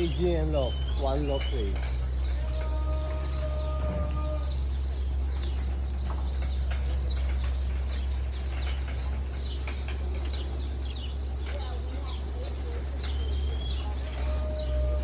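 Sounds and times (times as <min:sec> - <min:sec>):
pigeons calling: 0:00.0 - 0:15.0.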